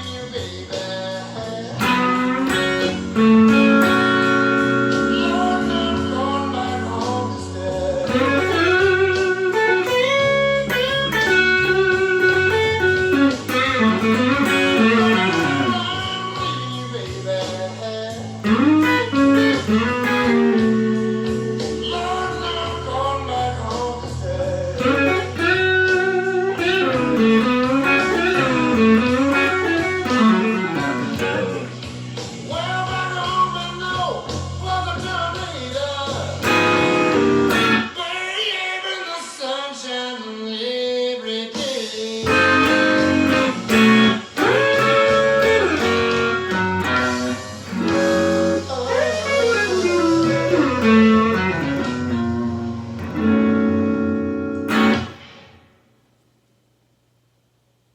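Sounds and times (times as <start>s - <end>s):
blues backing track with bass: 0.0s - 38.2s, 42.2s - 55.6s
overdriven electric guitar blues lead: 0.1s - 33.7s, 34.6s - 38.4s, 42.2s - 55.7s.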